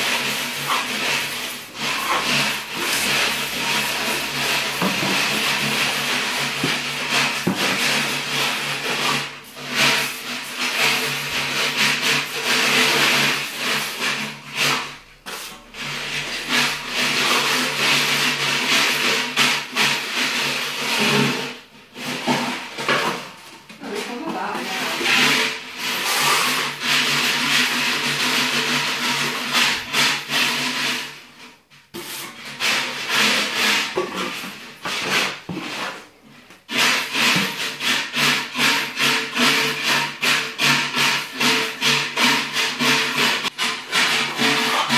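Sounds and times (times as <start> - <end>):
trowel scraping wet plaster: 0.0 - 44.9.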